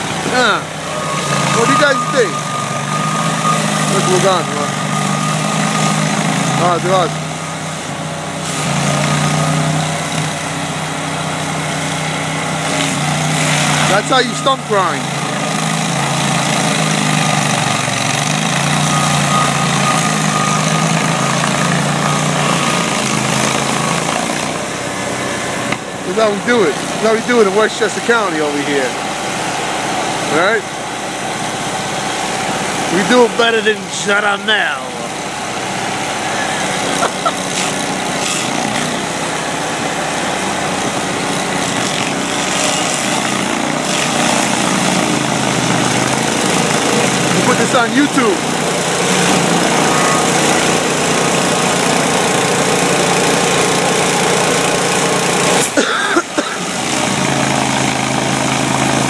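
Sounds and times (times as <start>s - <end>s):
stump grinder engine running: 0.0s - 59.0s.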